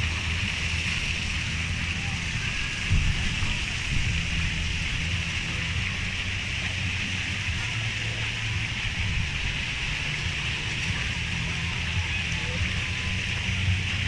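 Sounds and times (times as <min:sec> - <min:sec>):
splashing water hiss: 0:00.0 - 0:14.0
wind rumbling on microphone: 0:00.0 - 0:14.0.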